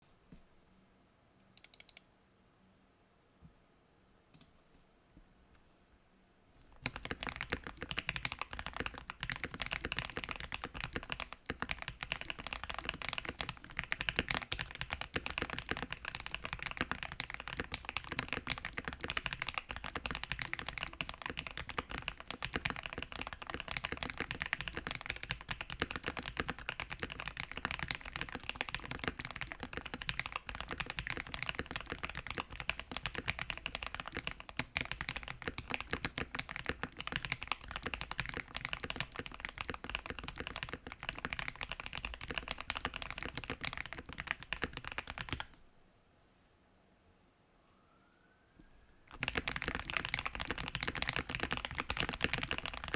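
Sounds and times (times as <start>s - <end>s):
mechanical keyboard typing: 1.6s - 2.0s, 6.8s - 45.6s, 49.1s - 52.9s.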